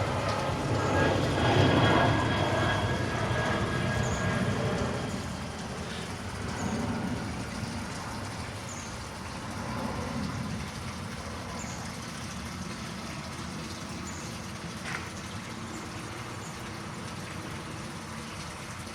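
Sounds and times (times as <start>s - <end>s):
jet airliner engine rumble: 0.0s - 18.2s.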